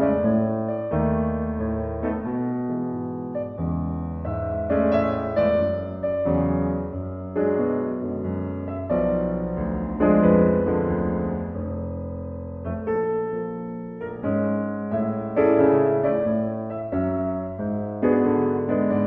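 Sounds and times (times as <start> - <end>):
piano-like keyboard chords: 0.0 - 19.0.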